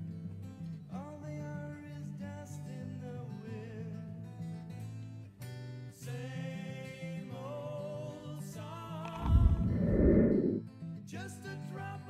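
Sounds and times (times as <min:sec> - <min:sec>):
song with acoustic guitar: 0:00.0 - 0:12.0.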